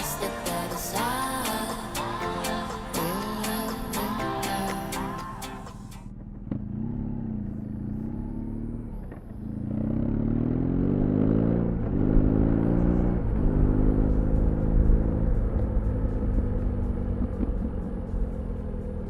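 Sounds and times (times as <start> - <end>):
motorcycle engine revving: 2.6 - 19.0.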